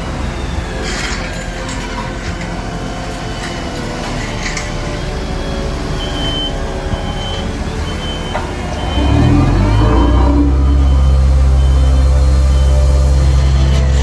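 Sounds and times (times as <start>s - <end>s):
heavy diesel equipment running: 0.0s - 14.0s
reversing beeper: 0.0s - 14.0s.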